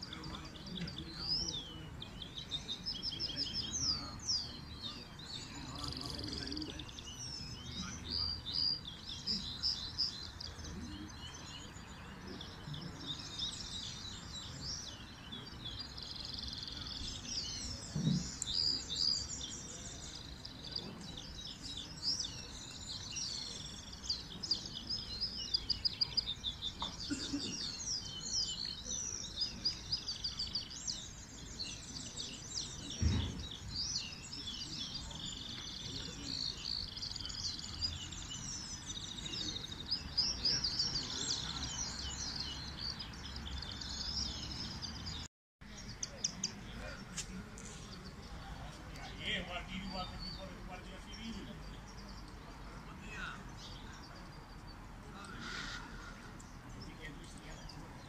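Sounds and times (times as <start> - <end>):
songbirds twittering and chirping: 0.0 - 58.0.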